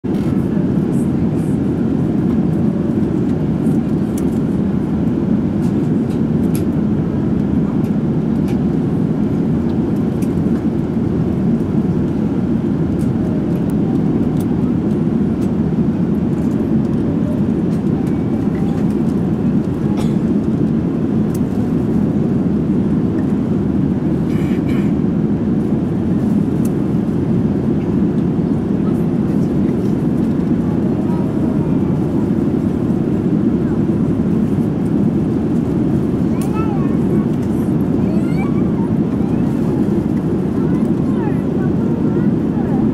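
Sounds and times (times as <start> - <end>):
airliner cabin engine rush: 0.0 - 42.9.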